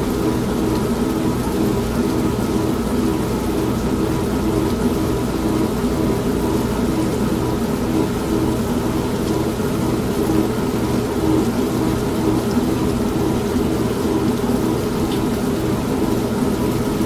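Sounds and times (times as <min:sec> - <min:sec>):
washing machine pulsing hum: 0:00.0 - 0:17.0.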